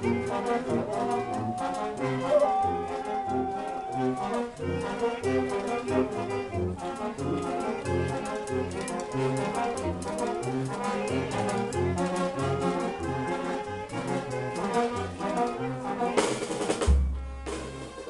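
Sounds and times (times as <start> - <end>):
brass band playing dance tune: 0.0 - 18.0.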